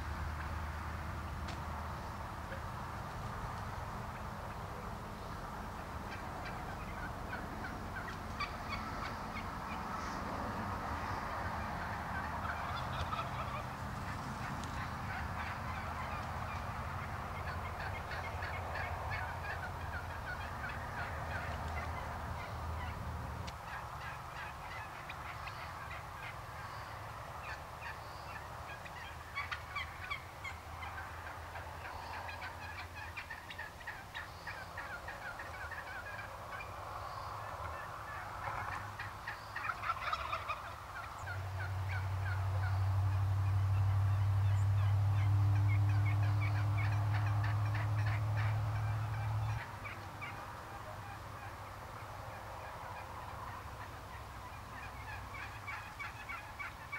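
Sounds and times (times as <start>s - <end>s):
wild turkeys gobbling: 1.3s - 56.9s.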